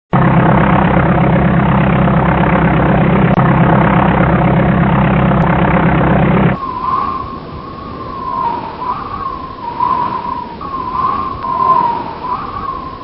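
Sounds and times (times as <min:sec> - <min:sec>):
engine and propeller droning: 0:00.1 - 0:13.0.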